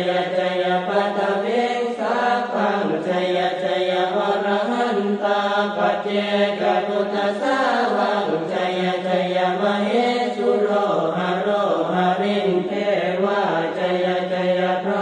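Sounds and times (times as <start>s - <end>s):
monks chanting in unison: 0.0s - 15.0s.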